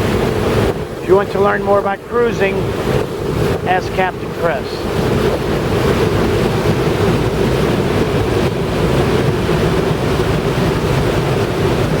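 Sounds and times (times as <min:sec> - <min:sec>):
boat engine running: 0:00.0 - 0:12.0
water rushing past hull: 0:00.0 - 0:12.0
wind buffeting microphone: 0:00.0 - 0:12.0.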